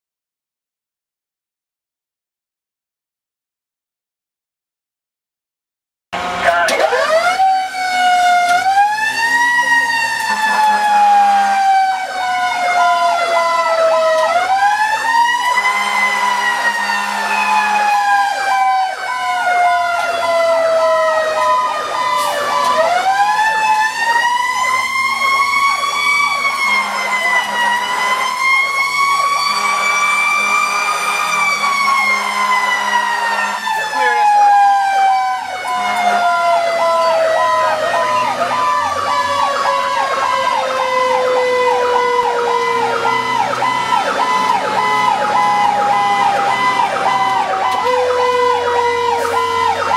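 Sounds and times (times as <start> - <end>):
wailing fire truck siren: 6.2 - 49.9
warbling siren: 6.2 - 49.9.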